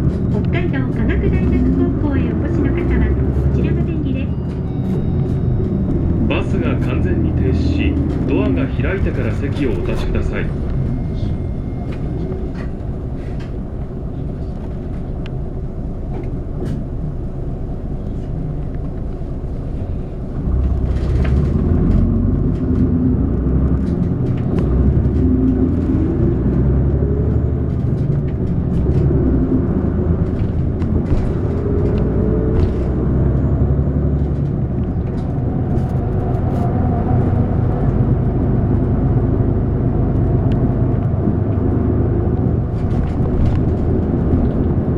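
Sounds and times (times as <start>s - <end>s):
bus engine and road rumble: 0.0s - 44.9s.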